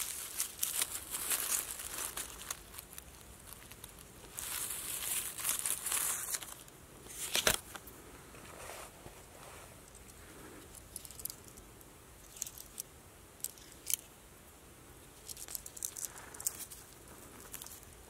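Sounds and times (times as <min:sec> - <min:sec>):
dry leaves and twigs crackling: 0:00.0 - 0:07.9, 0:09.8 - 0:14.1, 0:15.2 - 0:18.0.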